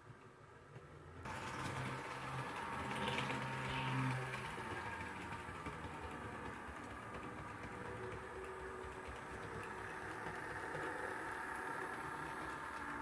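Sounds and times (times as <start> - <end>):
model train motor whining: 1.3 - 13.0.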